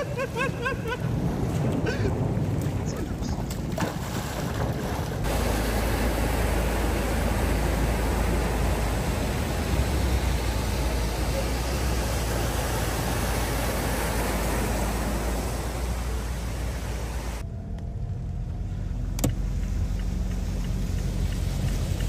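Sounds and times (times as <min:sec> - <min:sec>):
car driving through water: 0:00.0 - 0:17.4, 0:18.1 - 0:22.0
floodwater rushing: 0:00.0 - 0:17.4, 0:19.4 - 0:22.0
low rumble: 0:00.0 - 0:22.0.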